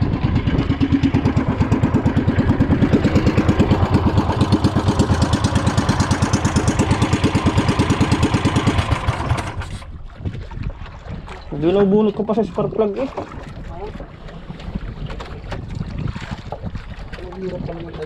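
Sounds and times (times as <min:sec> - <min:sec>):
small boat engine puttering: 0:00.0 - 0:18.0.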